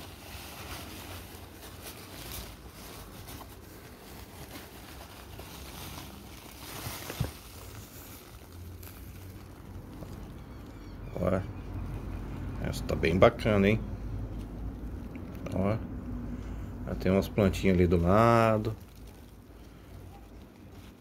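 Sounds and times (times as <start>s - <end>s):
packing paper rustling: 0.0s - 13.7s, 17.0s - 21.0s.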